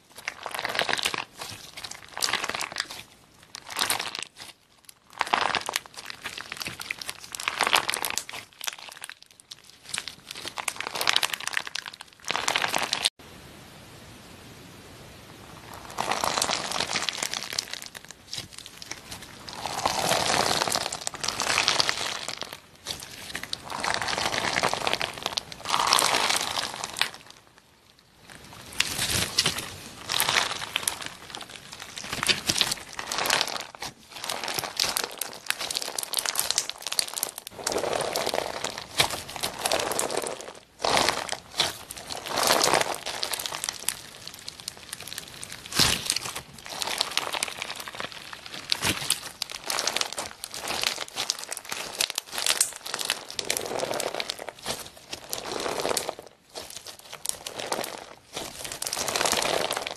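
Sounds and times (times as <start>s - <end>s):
slime crackling and crunching: 0.0s - 13.2s, 15.5s - 59.9s.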